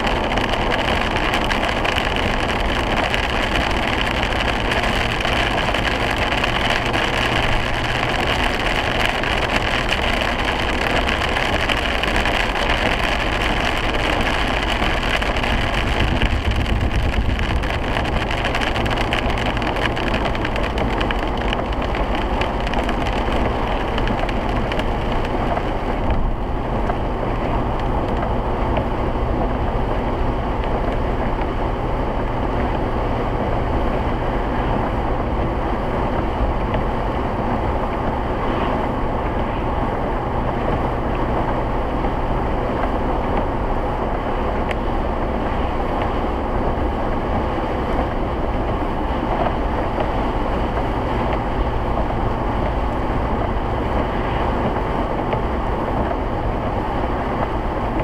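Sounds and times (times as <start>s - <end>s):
car engine noise: 0.0s - 58.0s
tyres hissing on wet pavement: 0.0s - 58.0s
wind noise: 0.0s - 58.0s.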